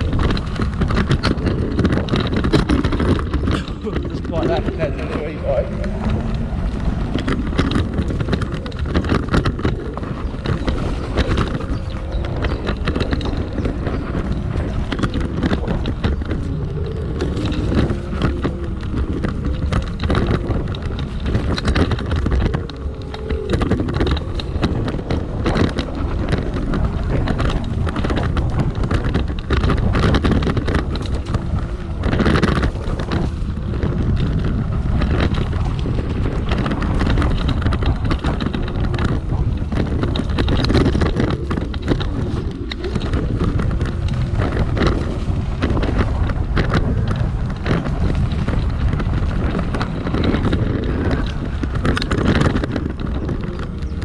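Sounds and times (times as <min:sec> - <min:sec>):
electric scooter rumble: 0:00.0 - 0:54.0
knocks and rattles: 0:00.0 - 0:54.0
wind buffeting microphone: 0:00.0 - 0:54.0.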